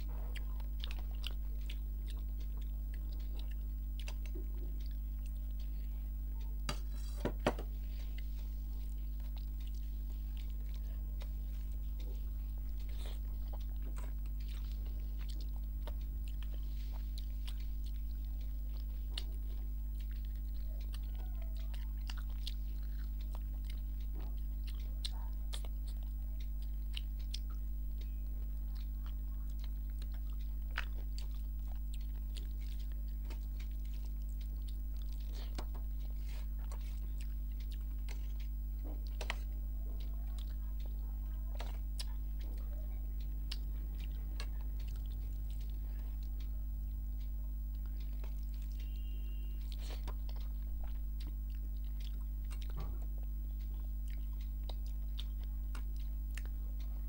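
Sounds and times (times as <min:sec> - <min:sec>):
person chewing food: 0:00.0 - 0:57.0
steady low hum: 0:00.0 - 0:57.0.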